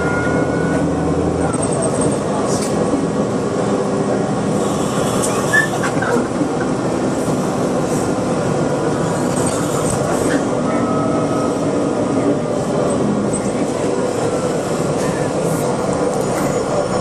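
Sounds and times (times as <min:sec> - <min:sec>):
bus engine hum: 0:00.0 - 0:17.0
road rumble: 0:00.0 - 0:17.0.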